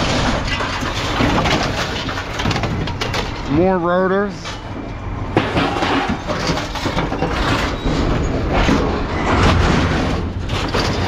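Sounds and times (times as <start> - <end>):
scrap metal clanking onto pile: 0.0 - 4.7, 5.4 - 11.0.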